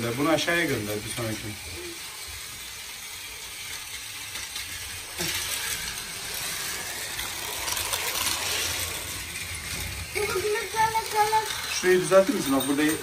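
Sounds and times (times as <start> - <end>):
toy trains whirring on plastic track: 0.0 - 13.0.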